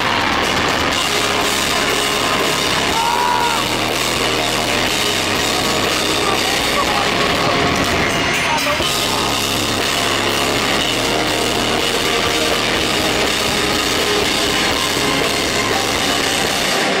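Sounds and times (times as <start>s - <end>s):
keyboards: 0.0s - 17.0s
live band music: 0.0s - 17.0s
steady drum beat: 0.0s - 17.0s.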